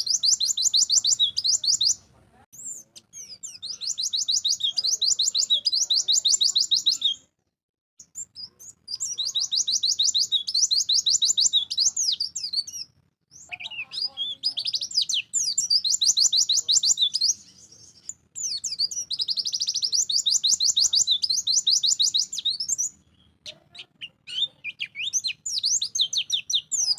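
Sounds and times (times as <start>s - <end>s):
bird short chirps: 0.0s - 7.3s, 8.0s - 26.9s
bird trilling song: 0.0s - 7.3s, 8.0s - 26.9s.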